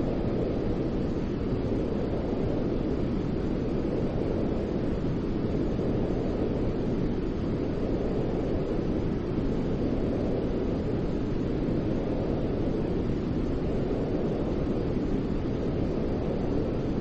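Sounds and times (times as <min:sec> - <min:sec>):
steady white noise rush: 0:00.0 - 0:17.0.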